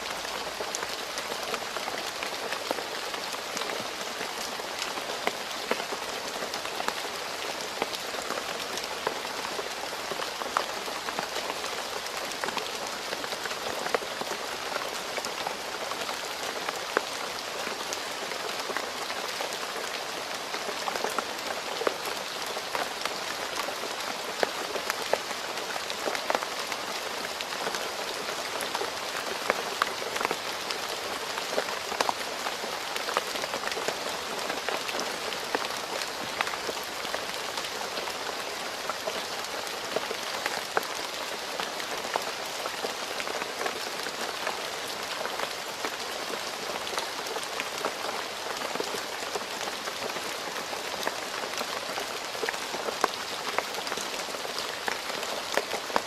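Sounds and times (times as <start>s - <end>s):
rain falling on a road: 0.0s - 56.0s.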